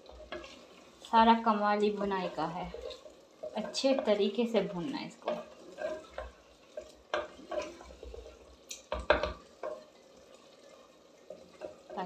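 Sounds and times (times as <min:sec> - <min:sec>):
wooden spoon scraping a clay pot: 0:00.0 - 0:09.7.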